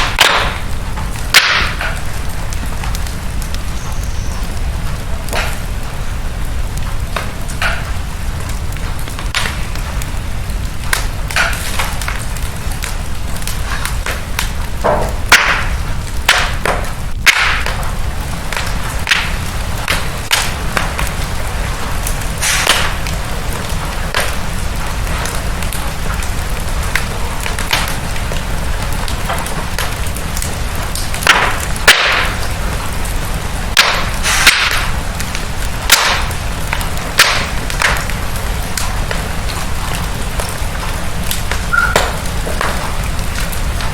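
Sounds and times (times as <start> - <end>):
fire crackling and popping: 0.0 - 43.9
low rumble of flames: 0.0 - 43.9.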